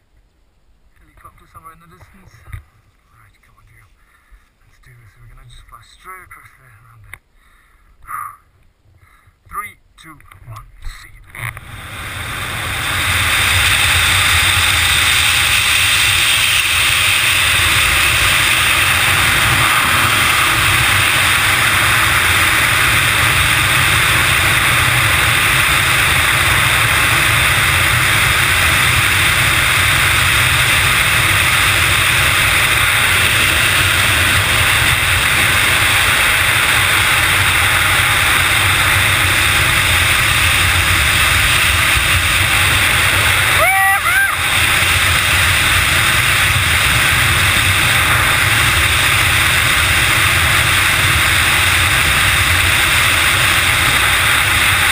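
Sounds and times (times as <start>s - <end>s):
wind rushing over camera: 10.3s - 54.9s.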